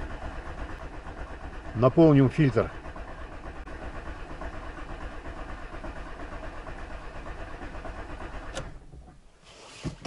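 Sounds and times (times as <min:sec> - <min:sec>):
engine cranking by starter: 0:00.0 - 0:10.0.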